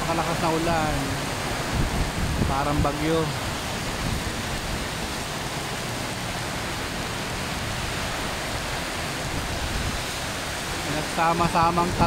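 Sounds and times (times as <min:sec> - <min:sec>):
heavy rain on road: 0:00.0 - 0:12.0.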